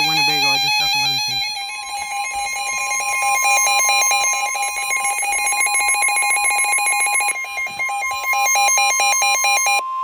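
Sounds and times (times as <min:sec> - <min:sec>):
electronic alarm tone: 0:00.0 - 0:10.0.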